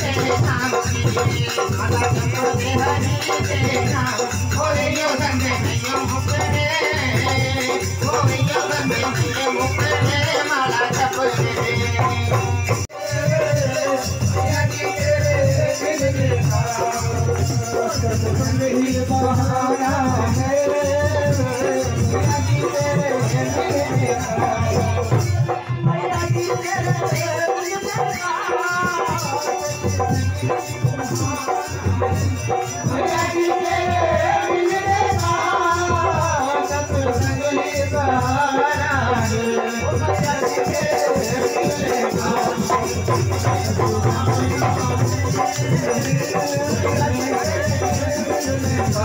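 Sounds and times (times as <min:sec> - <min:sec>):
person singing devotional song: 0:00.0 - 0:49.0
rattling percussion: 0:00.0 - 0:49.0
steady drum beat: 0:00.0 - 0:49.0.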